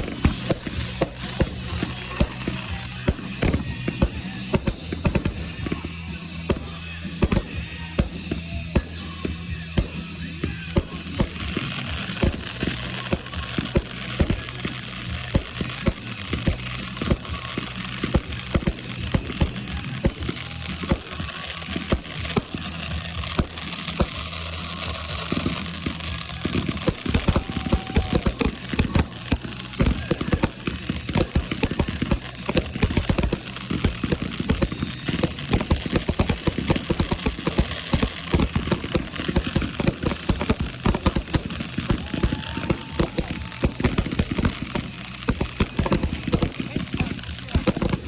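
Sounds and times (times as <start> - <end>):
fireworks popping and banging: 0.0 - 48.0.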